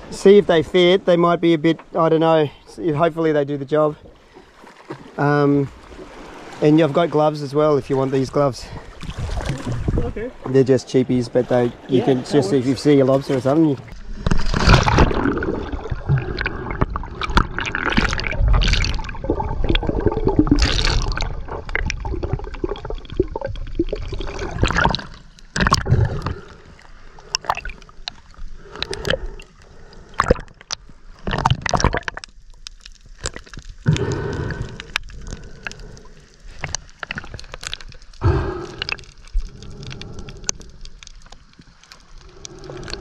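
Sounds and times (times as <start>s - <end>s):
water sloshing and gurgling: 0.0s - 43.0s.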